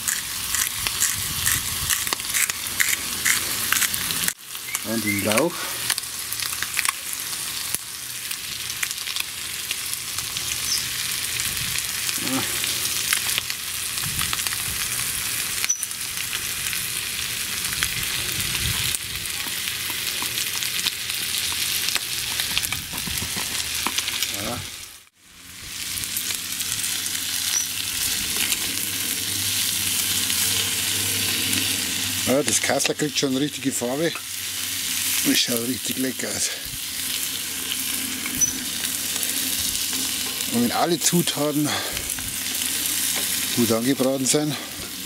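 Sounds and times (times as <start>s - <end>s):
vegetables sizzling in a pan: 0.0s - 45.0s.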